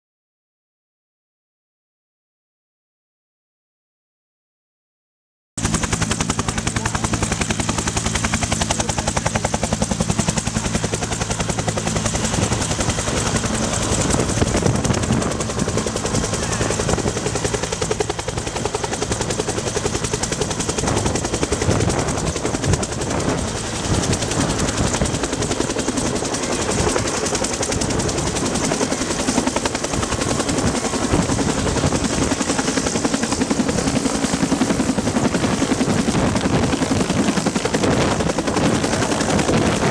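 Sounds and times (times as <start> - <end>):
helicopter rotor chopping: 5.6 - 39.9
turbine noise: 5.6 - 39.9.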